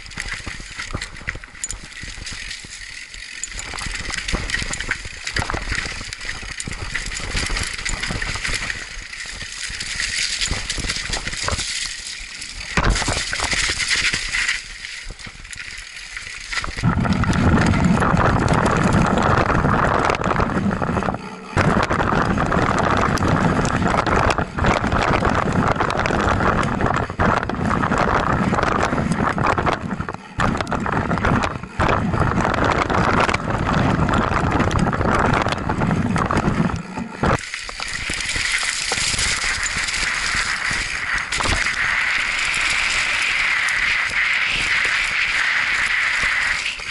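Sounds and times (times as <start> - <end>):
bike chain and frame rattling: 0.0 - 46.9.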